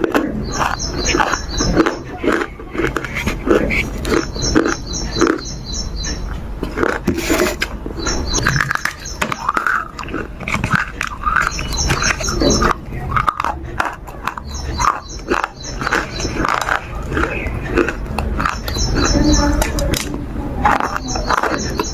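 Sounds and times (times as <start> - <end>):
bird chirping: 0.0 - 21.9
pet licking and chewing food: 0.0 - 21.9.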